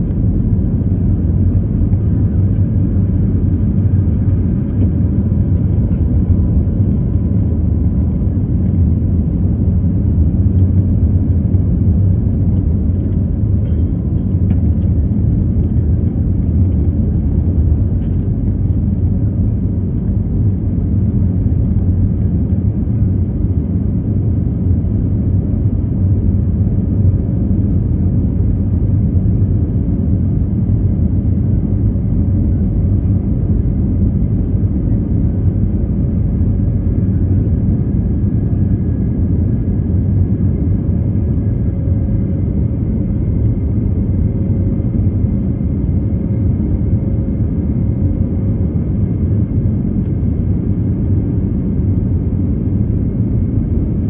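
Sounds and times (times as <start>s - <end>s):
jet engine rumble: 0.0s - 54.0s.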